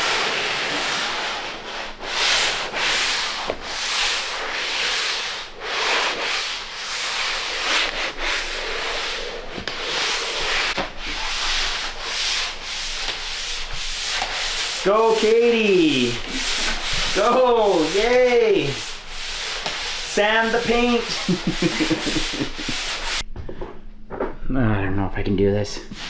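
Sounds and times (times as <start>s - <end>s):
sanding drywall compound: 0.0s - 23.3s.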